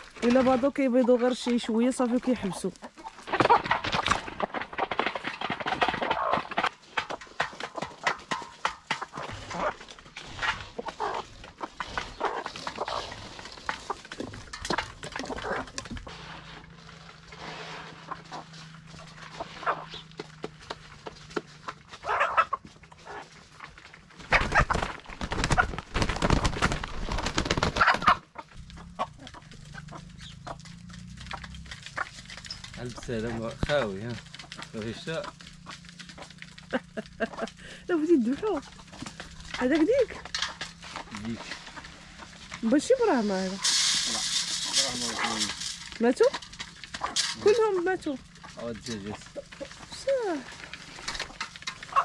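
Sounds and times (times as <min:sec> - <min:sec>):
hens clucking: 0:00.0 - 0:52.0
scraping and rustling: 0:00.0 - 0:52.0.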